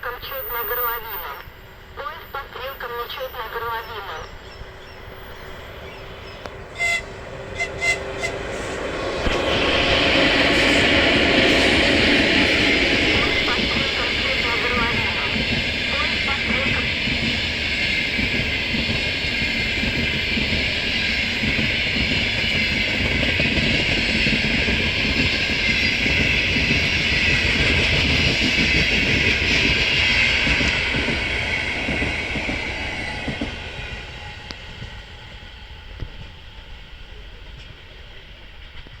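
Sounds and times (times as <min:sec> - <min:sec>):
train wheels rumbling on rails: 0:00.0 - 0:39.0
clickety-clack of train wheels: 0:06.2 - 0:39.0.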